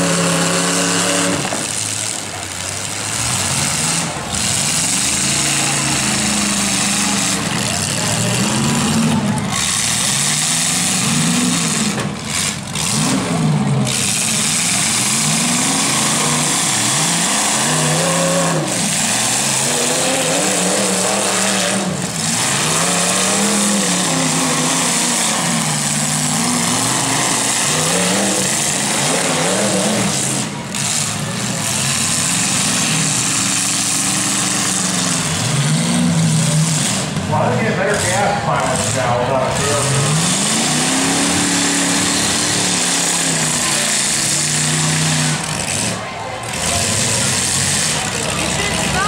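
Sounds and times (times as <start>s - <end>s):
truck engines revving: 0.0s - 49.0s
loud steady din: 3.8s - 49.0s.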